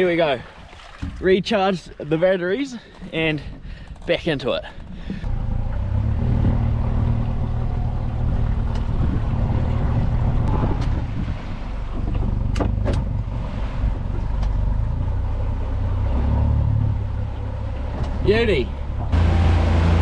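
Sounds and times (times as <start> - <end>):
outboard motor rumbling: 0.0 - 20.0.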